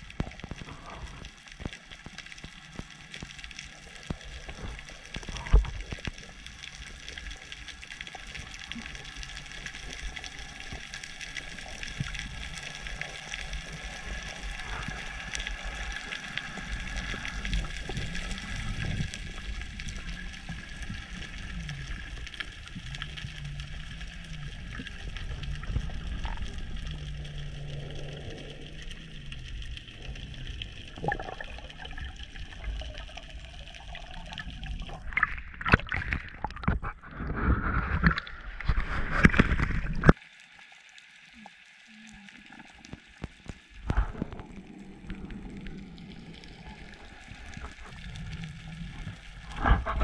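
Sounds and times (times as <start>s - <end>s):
water washing and gurgling: 0.0s - 40.2s, 41.4s - 50.0s.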